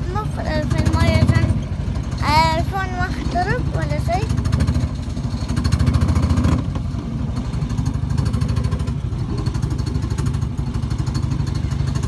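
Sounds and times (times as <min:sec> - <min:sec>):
low pulsing mechanical rumble: 0:00.0 - 0:12.0.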